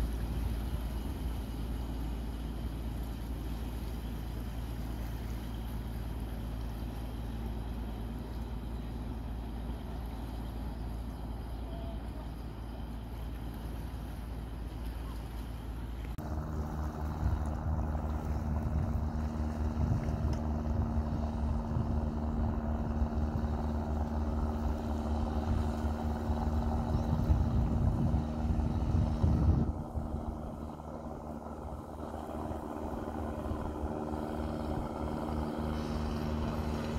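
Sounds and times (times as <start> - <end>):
boat engine humming: 0.0 - 36.9
low rumble: 0.0 - 36.9.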